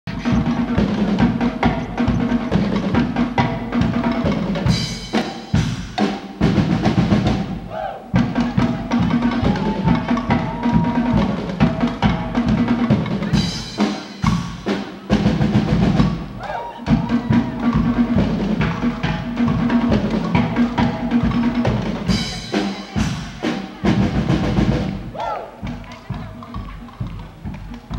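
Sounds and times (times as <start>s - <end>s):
brass band playing: 0.1s - 26.8s
bass drum and snare beat: 0.1s - 27.9s.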